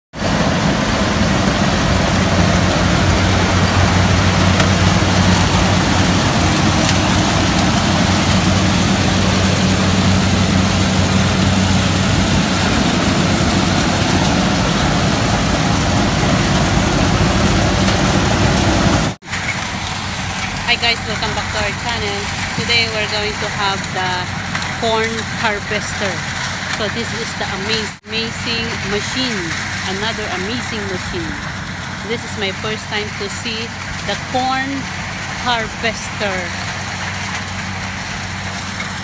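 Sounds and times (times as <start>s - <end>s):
combine harvester running: 0.2s - 39.0s.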